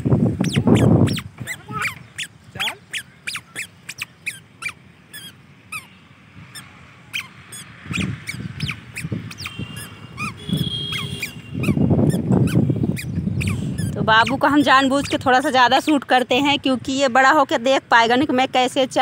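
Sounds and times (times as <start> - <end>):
squeaky sandals chirping: 0.4 - 16.6.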